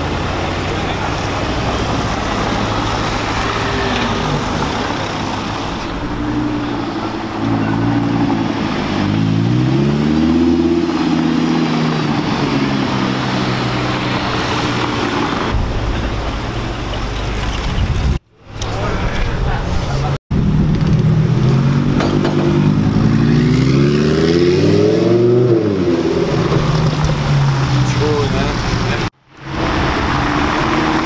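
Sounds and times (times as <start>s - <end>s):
engine revving: 0.0s - 15.6s, 20.4s - 31.0s
car engines rolling by: 0.0s - 31.0s.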